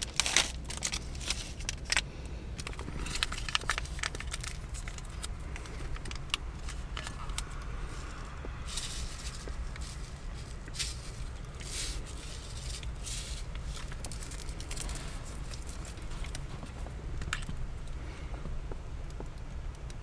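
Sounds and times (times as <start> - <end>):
short rustles: 0.0 - 17.6
rain drops ticking on camper: 0.0 - 20.0
steady low rumble: 0.0 - 20.0.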